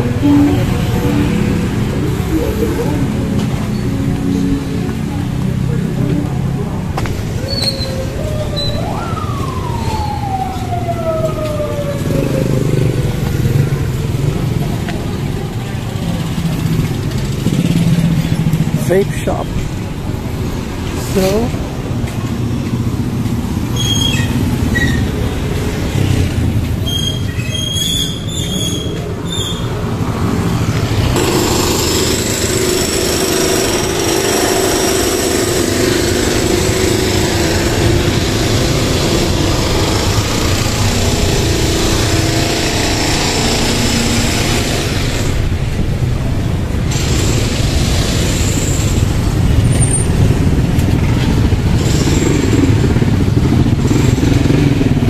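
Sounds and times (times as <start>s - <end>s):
motorcycle engines passing: 0.0s - 55.0s.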